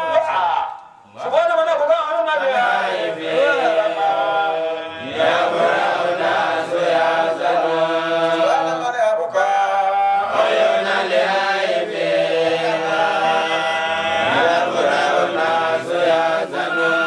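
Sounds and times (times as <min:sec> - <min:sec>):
man chanting melodically: 0:00.0 - 0:17.0.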